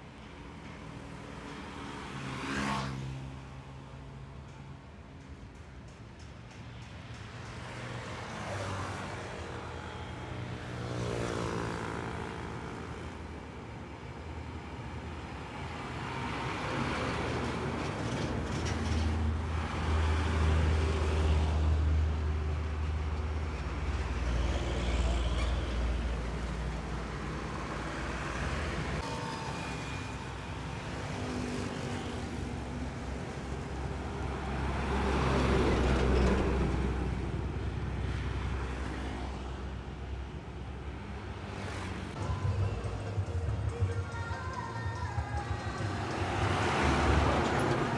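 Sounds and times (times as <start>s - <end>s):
diesel trucks passing: 0.0s - 47.9s.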